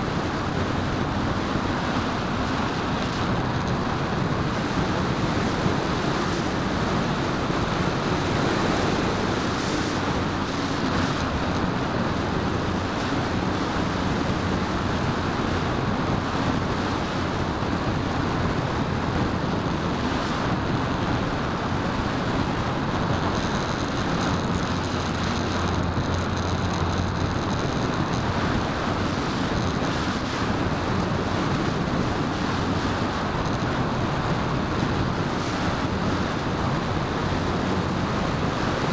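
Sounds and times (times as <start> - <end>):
propeller and motor humming: 0.0 - 38.9
wind rushing over microphone: 0.0 - 38.9.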